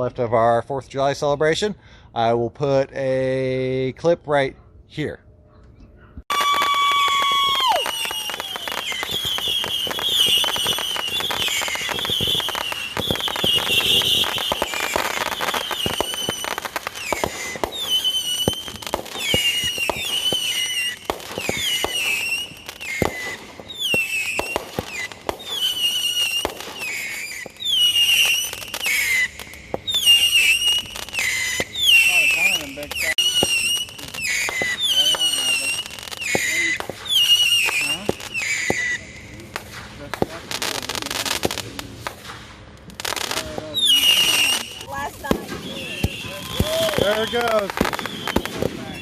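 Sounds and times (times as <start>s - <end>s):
fireworks crackling pops: 6.2s - 49.0s
whistling fireworks: 6.2s - 49.0s.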